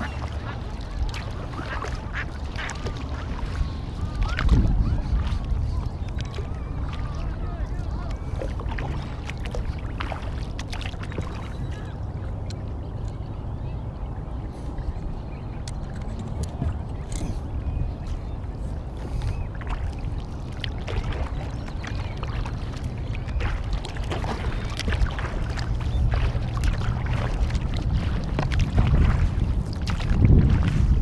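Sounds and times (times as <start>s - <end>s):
paddle strokes splashing water: 0.0s - 13.3s, 14.4s - 31.0s
wind rumble on microphone: 0.0s - 31.0s.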